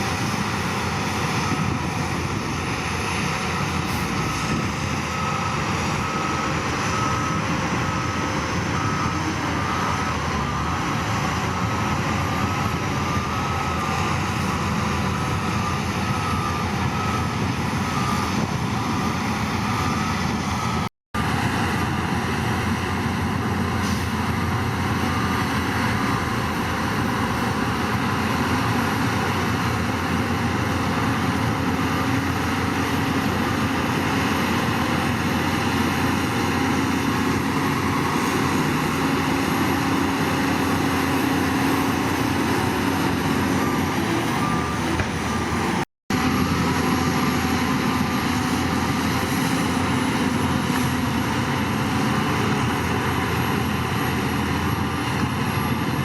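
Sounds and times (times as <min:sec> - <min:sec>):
heavy diesel machinery running: 0:00.0 - 0:56.0
reversing alarm beeping: 0:00.0 - 0:56.0.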